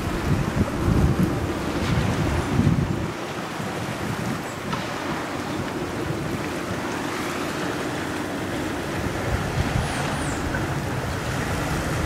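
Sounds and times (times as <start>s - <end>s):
sea waves washing: 0.0s - 12.0s
wind rumbling on microphone: 0.0s - 12.0s.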